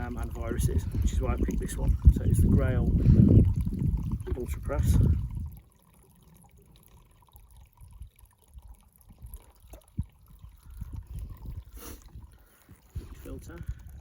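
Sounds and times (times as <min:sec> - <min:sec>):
wind buffeting microphone: 0:00.0 - 0:05.6, 0:07.8 - 0:14.0
water trickling and dripping: 0:00.0 - 0:14.0.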